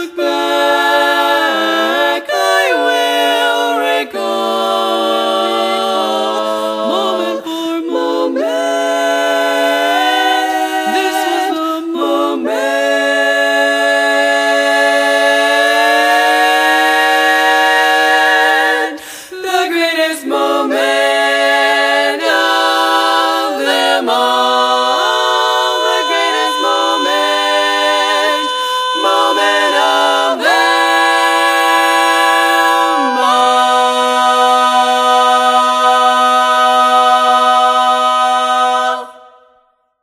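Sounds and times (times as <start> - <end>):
women singing a cappella harmony: 0.0 - 39.6.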